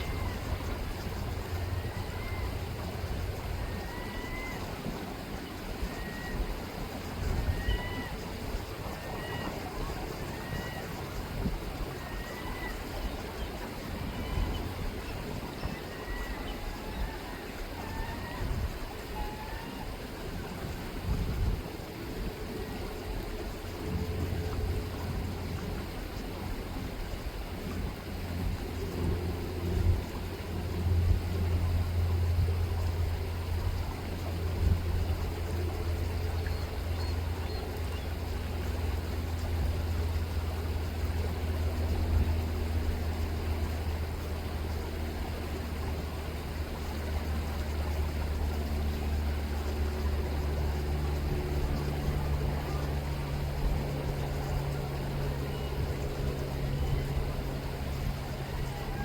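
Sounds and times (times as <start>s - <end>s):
engine low hum: 0.0s - 59.0s.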